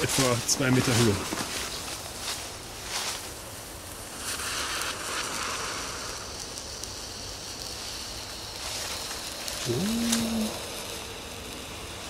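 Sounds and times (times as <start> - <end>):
firework fuse fizzing: 0.0 - 12.0
fountain firework hissing: 0.0 - 12.0.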